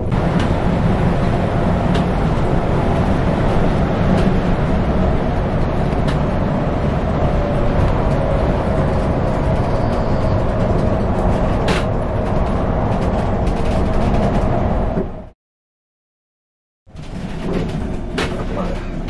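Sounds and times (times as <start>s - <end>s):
coach engine and tyre noise: 0.0s - 15.3s, 16.9s - 19.0s.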